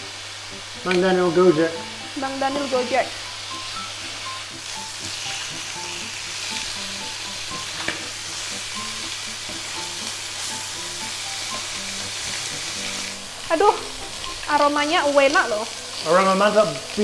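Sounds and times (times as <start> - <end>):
chicken sizzling in a frying pan: 0.0 - 17.0.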